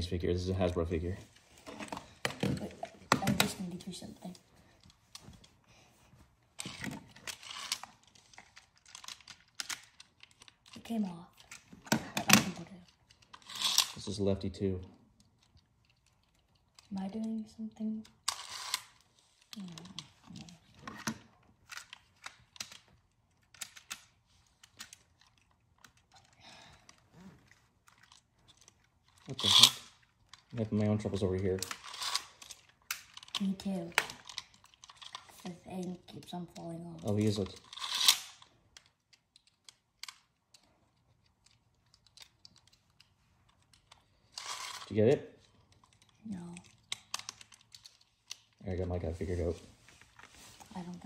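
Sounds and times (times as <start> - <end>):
plastic toy parts clicking: 6.6 - 14.1, 15.1 - 48.6.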